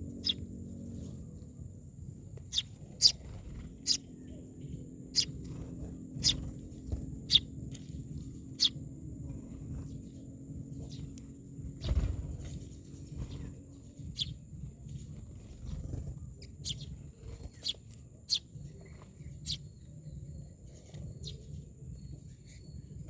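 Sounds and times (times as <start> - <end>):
myna birds calling: 0.0 - 1.8, 2.4 - 23.0
low rumble: 0.0 - 23.0.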